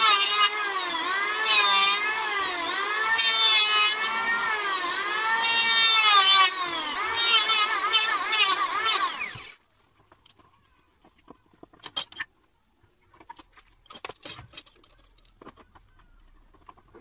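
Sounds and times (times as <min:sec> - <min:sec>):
hand tools and wood clicking: 0:00.0 - 0:17.0.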